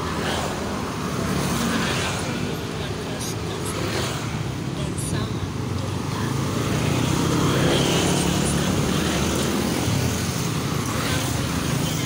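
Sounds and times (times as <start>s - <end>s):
scooters and motorcycles passing: 0.0s - 12.0s.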